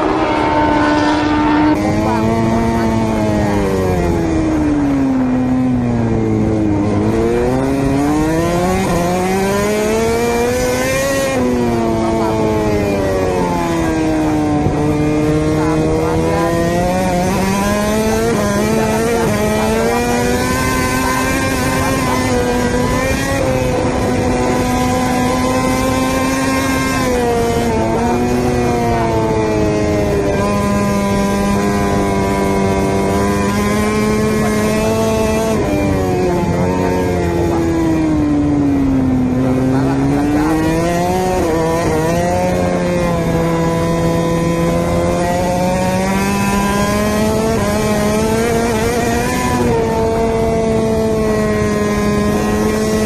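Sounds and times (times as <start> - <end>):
scooter engine running: 0.0 - 53.0
wind rushing over microphone: 0.0 - 53.0.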